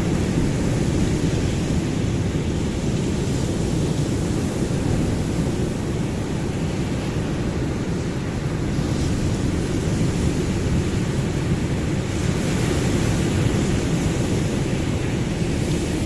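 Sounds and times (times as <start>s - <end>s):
ocean surf washing: 0.0s - 16.0s.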